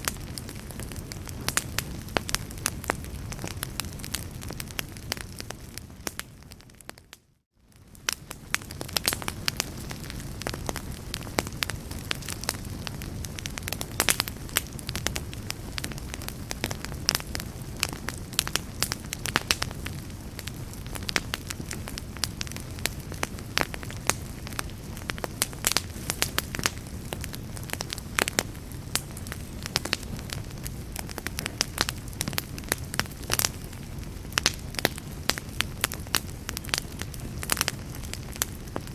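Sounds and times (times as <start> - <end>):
low rumble of flames: 0.0 - 38.9
wood fire popping and snapping: 0.0 - 38.9.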